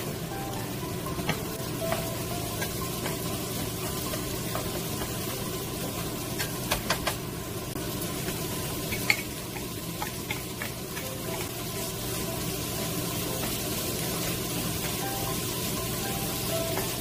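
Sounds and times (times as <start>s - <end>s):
food sizzling in wok: 0.0s - 17.0s.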